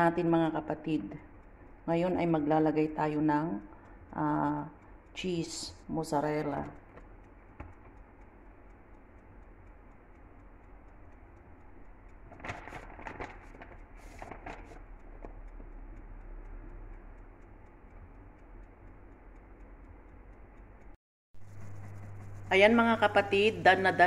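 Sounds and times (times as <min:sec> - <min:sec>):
faint even ticking: 0:00.0 - 0:24.0
low steady hum: 0:00.0 - 0:24.0.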